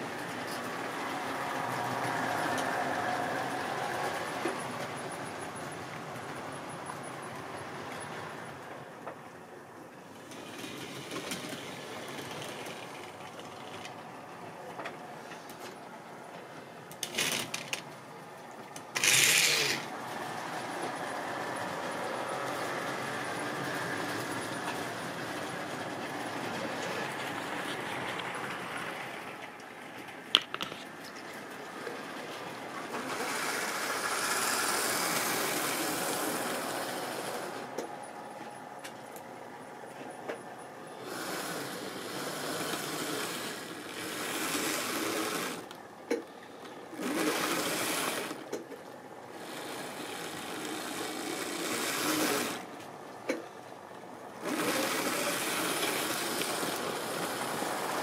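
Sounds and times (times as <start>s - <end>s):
model train motors whirring: 0.0s - 30.8s, 31.4s - 58.0s
wheels rattling over rails: 0.0s - 58.0s.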